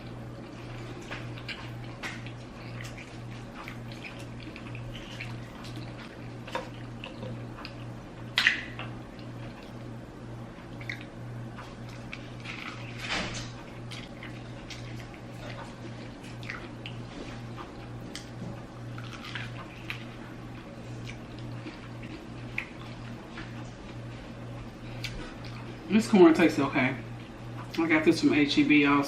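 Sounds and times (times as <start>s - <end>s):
chewing with wet mouth smacks: 0.0s - 25.9s
low pulsing hum: 0.0s - 29.0s.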